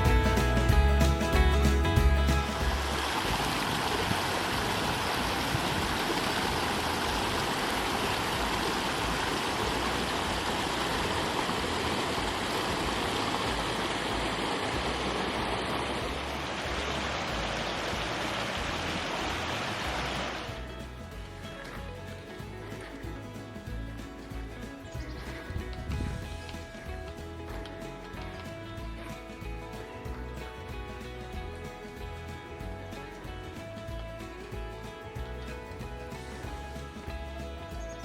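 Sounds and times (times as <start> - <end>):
mountain stream rushing: 0.0 - 38.0.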